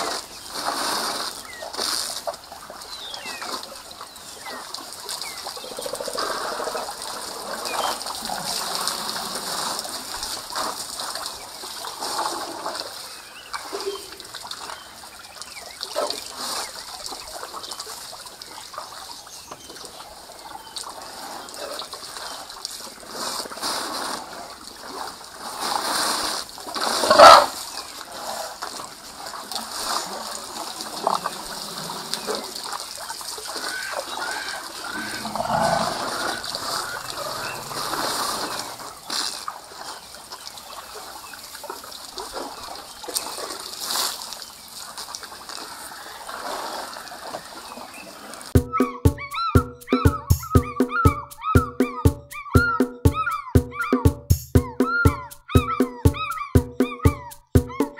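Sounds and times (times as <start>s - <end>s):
elephants splashing water: 0.0s - 48.6s.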